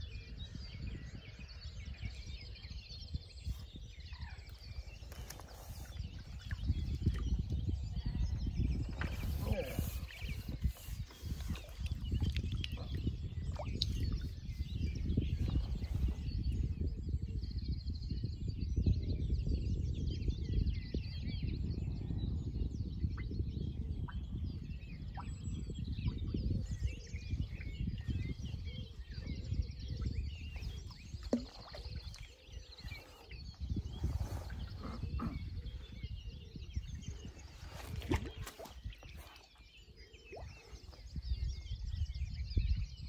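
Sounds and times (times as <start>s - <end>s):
small birds chirping: 0.0s - 43.0s
wind buffeting microphone: 0.0s - 43.0s.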